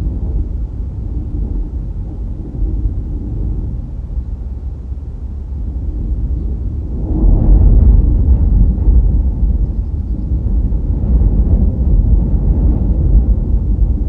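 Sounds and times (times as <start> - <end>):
wind and road noise from car: 0.0 - 14.0.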